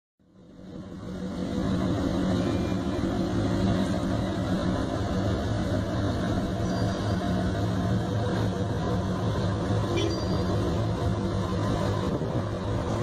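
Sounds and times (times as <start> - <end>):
boat engine droning: 0.3 - 13.0
rushing noise: 0.3 - 13.0.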